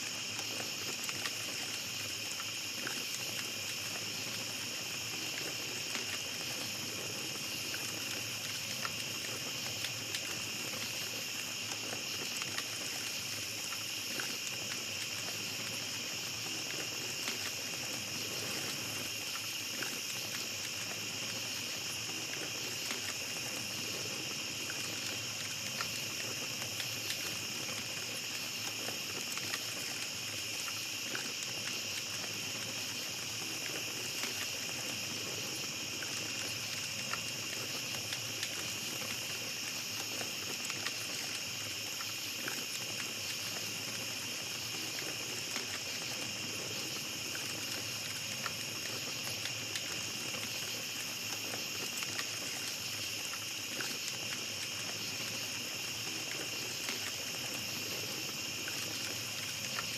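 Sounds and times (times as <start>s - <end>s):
campfire crackling: 0.0s - 59.9s
crickets trilling: 0.0s - 59.9s.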